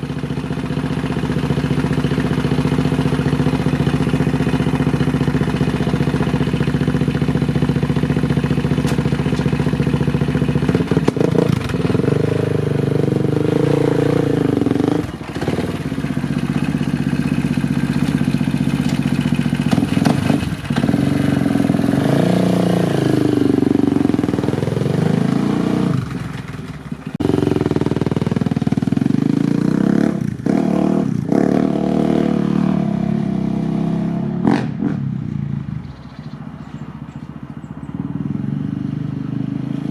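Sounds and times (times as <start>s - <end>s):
engine revving: 0.0s - 35.3s, 38.0s - 39.9s.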